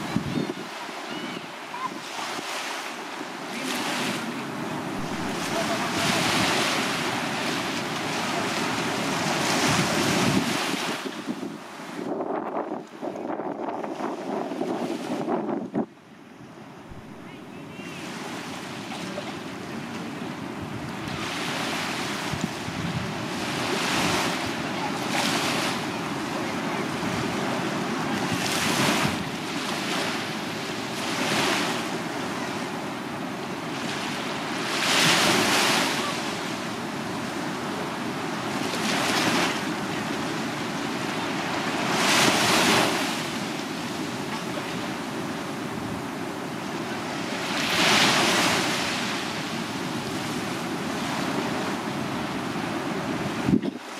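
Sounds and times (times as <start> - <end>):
waves breaking on sand: 0.0 - 53.9.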